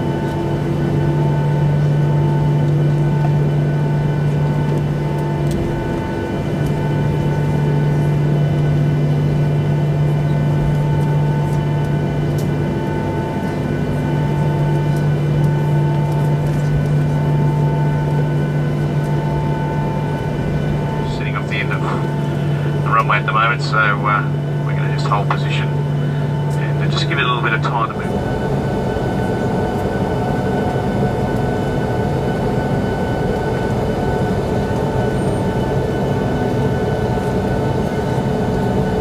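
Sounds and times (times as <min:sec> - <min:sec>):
aircraft cabin hum: 0:00.0 - 0:39.0.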